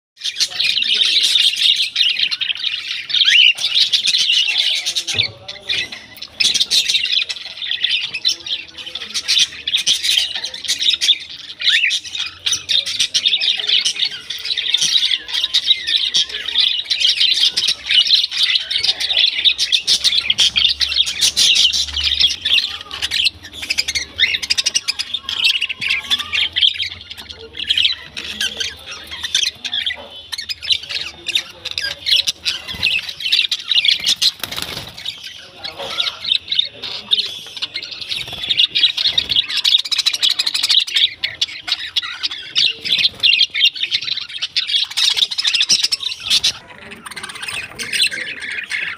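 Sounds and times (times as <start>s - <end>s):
parrots chirping and squawking: 0.2s - 48.9s.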